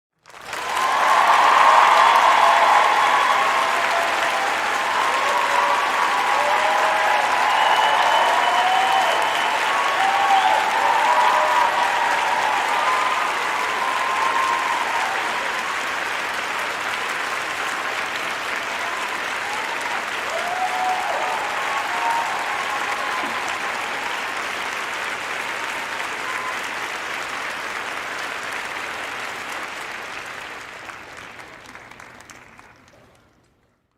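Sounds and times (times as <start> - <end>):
crowd clapping and cheering: 0.1 - 33.9.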